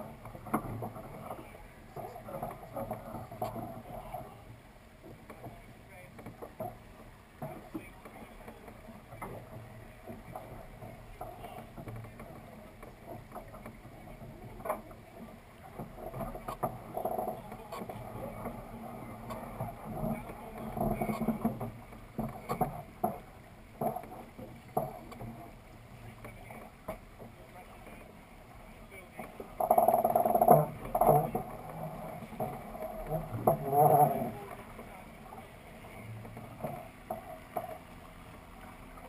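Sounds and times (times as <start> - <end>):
water rushing along hull: 0.0 - 39.0.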